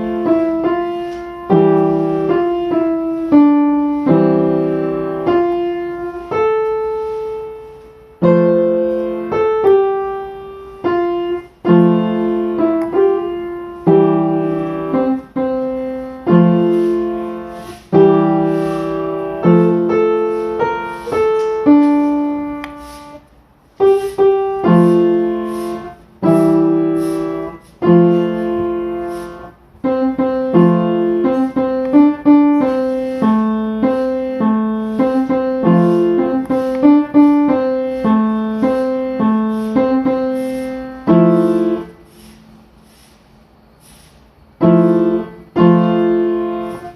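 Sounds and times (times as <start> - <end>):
slow piano chords: 0.0 - 43.9, 44.5 - 46.9.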